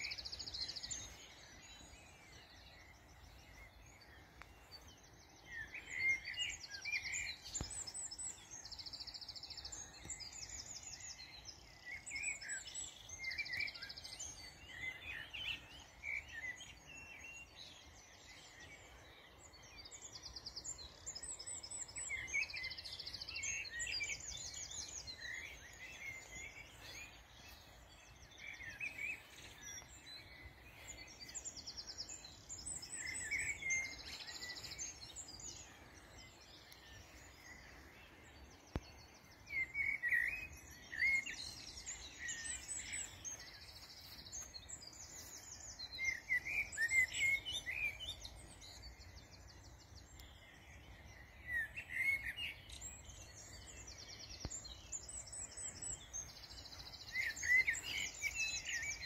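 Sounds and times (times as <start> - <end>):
faint low background noise: 0.0 - 59.0
songbirds singing: 0.0 - 59.0.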